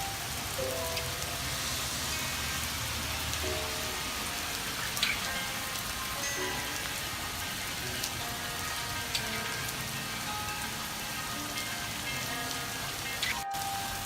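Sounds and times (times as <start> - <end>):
heavy rain falling: 0.0 - 14.0
melodic background music: 0.0 - 14.0.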